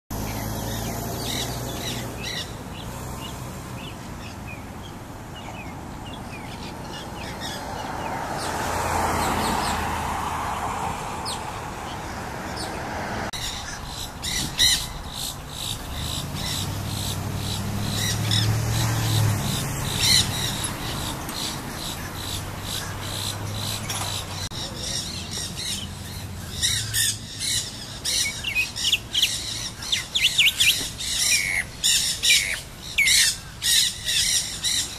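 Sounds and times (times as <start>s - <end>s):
parakeets squawking: 0.2s - 3.0s, 5.4s - 9.8s, 13.4s - 34.9s.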